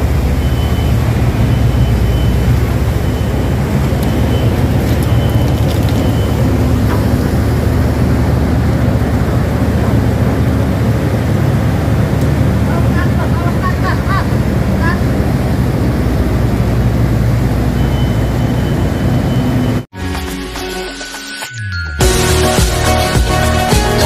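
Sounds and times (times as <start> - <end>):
diesel engine rumbling: 0.0 - 19.9.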